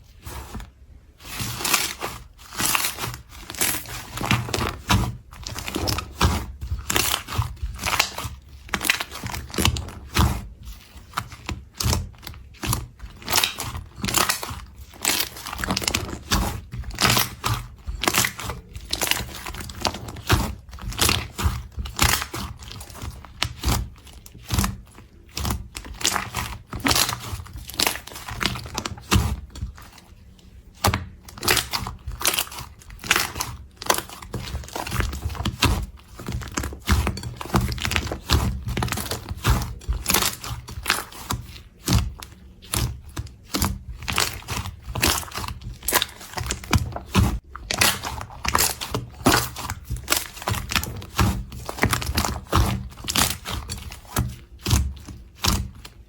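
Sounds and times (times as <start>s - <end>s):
slime crackling and popping: 1.2s - 30.0s, 30.7s - 56.0s.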